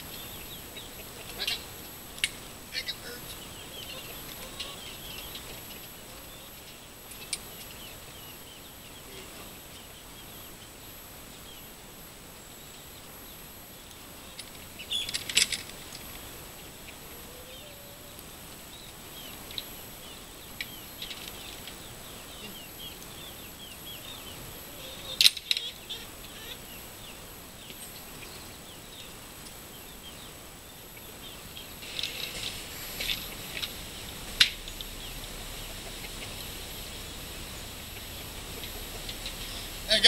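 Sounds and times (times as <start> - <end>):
birds chirping faintly: 0.0 - 40.0.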